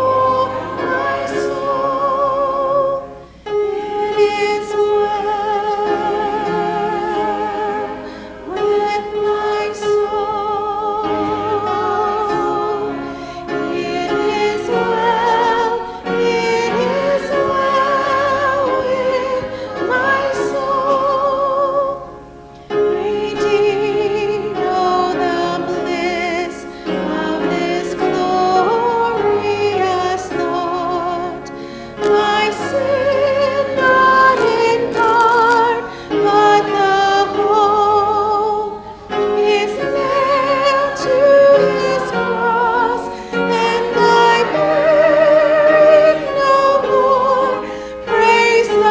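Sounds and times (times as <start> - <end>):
congregation singing a hymn: 0.0 - 48.9.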